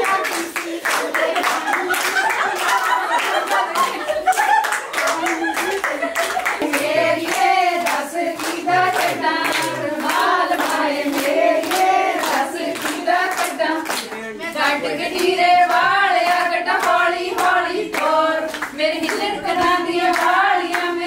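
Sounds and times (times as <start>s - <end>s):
hand-clapping: 0.0s - 21.0s
women singing together: 0.0s - 21.0s.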